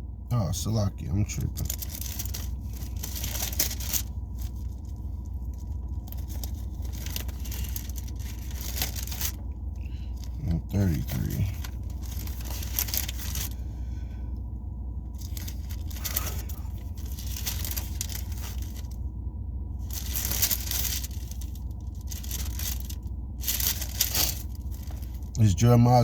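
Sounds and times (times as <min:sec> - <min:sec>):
steady low hum: 0:00.0 - 0:26.0
handling noise rustling: 0:01.3 - 0:25.4.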